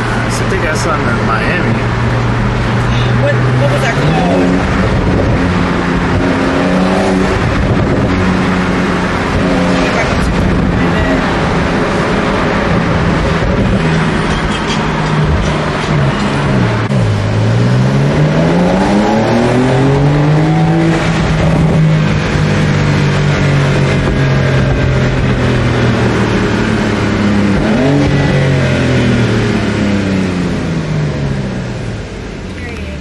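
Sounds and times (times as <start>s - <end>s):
sports car engine revving: 0.0s - 33.0s.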